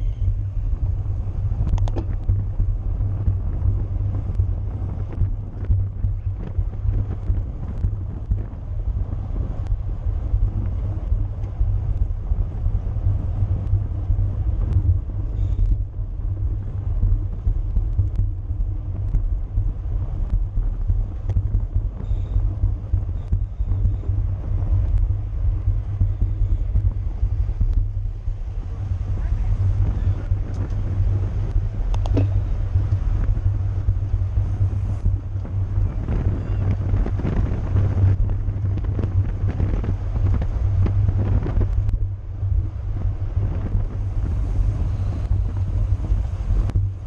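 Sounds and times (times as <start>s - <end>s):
road and tyre noise: 0.0s - 47.0s
wind rumble on microphone: 0.0s - 47.0s.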